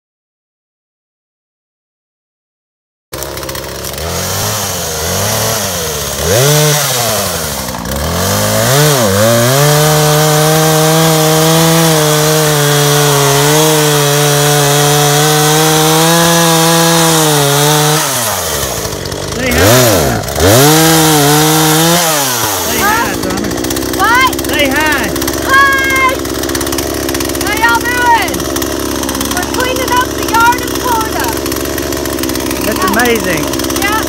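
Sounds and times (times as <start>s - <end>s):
chainsaw cutting log: 3.1s - 34.0s.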